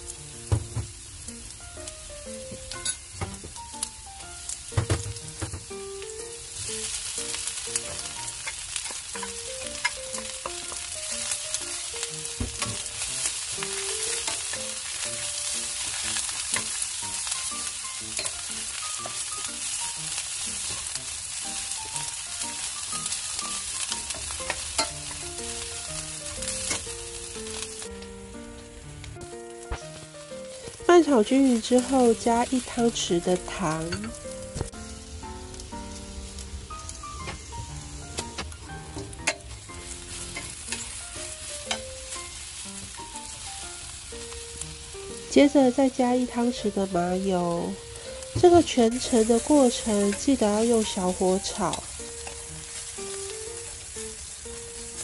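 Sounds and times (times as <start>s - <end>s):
oil sizzling in a pan: 0.0s - 55.0s
soft background music: 0.0s - 55.0s.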